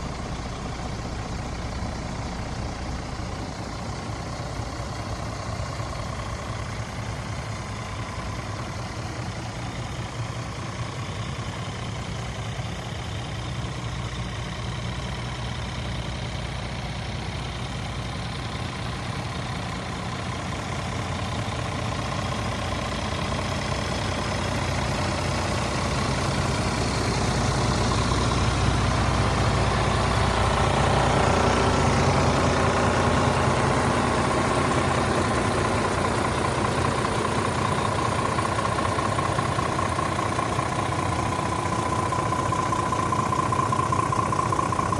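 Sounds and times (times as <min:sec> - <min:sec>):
truck diesel engine running: 0:00.0 - 0:44.9.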